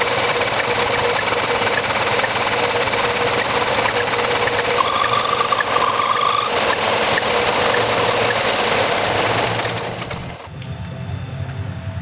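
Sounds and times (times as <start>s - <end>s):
metal lathe cutting metal: 0.0s - 10.5s
high steady whine: 0.0s - 12.0s.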